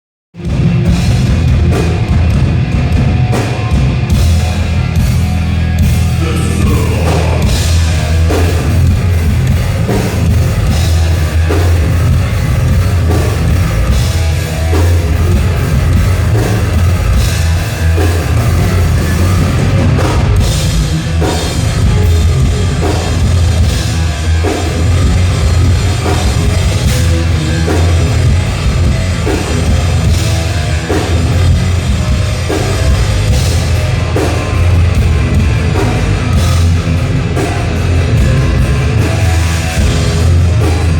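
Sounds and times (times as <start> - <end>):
distorted guitars and bass: 0.3 - 40.9
drum kit with cymbal crashes: 0.4 - 40.9.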